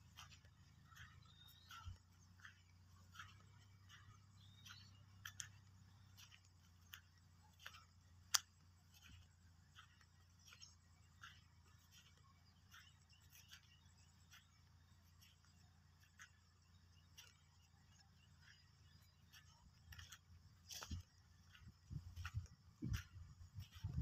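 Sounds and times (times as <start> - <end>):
faint irregular clicks: 0.1 - 24.0.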